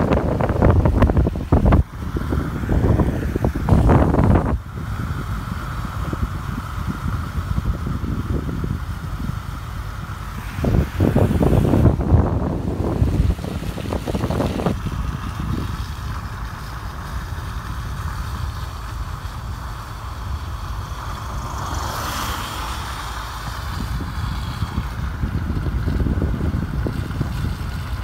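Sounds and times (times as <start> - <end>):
car tyres swishing past: 0.0 - 28.0
road noise: 0.0 - 28.0
wind buffeting microphone: 0.0 - 28.0.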